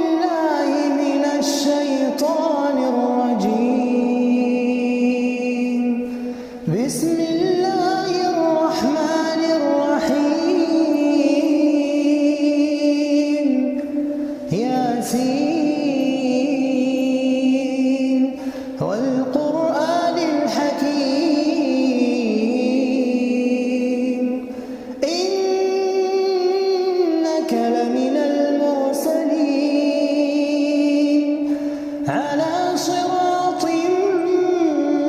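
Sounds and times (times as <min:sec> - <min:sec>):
solo voice chanting recitation: 0:00.0 - 0:35.0.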